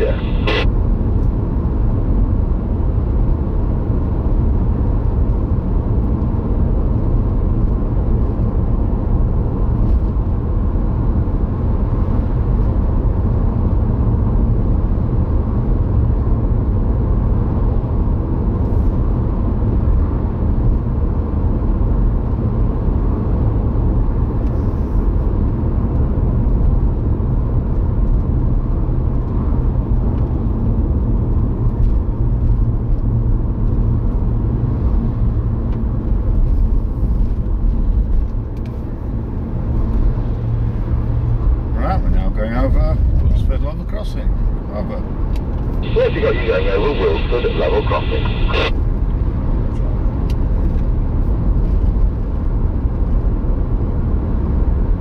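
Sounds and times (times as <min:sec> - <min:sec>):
car cabin road and engine noise: 0:00.0 - 0:55.0.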